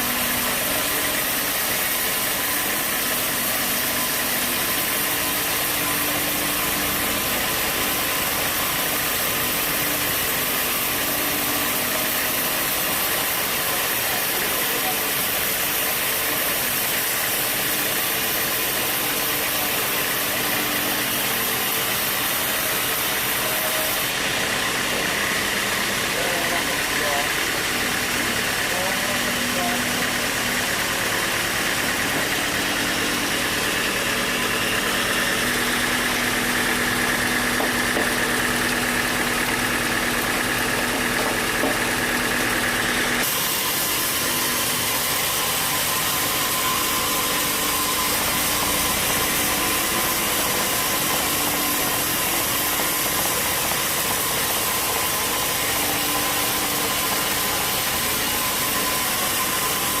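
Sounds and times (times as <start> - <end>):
sawmill engine running: 0.0 - 60.0.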